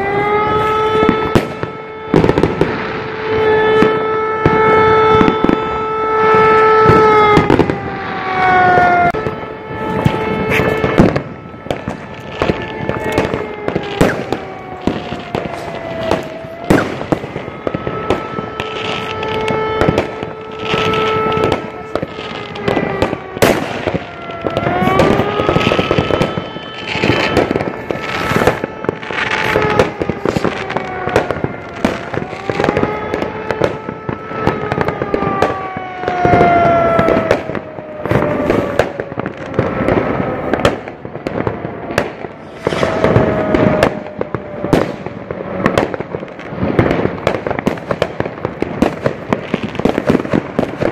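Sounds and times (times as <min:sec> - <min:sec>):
wailing gliding tone: 0:00.0 - 0:40.9, 0:42.1 - 0:45.8
crackling firework bursts: 0:00.0 - 0:50.9
firework rocket bangs: 0:00.0 - 0:50.9.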